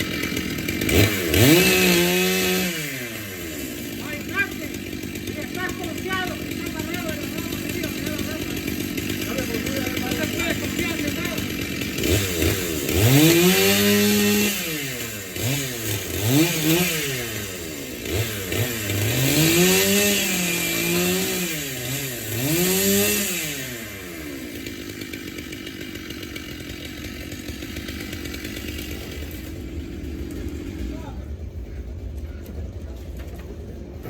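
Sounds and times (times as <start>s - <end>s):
chainsaw engine revving and idling: 0.0s - 34.0s.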